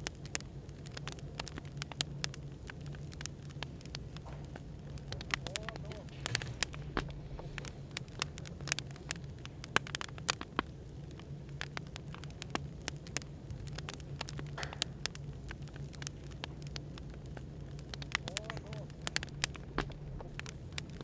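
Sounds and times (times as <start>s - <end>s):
low background hum: 0.0s - 21.0s
wood fire crackling: 0.0s - 21.0s.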